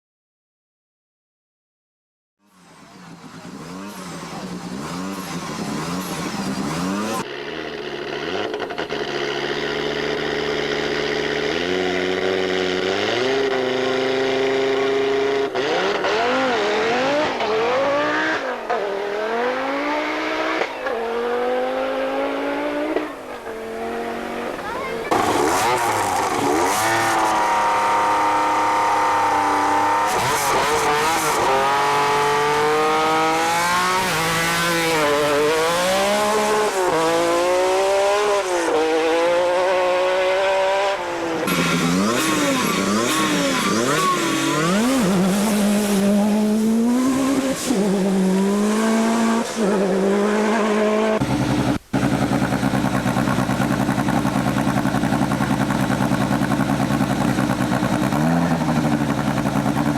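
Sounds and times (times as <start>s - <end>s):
rally car engines revving: 2.4s - 59.9s.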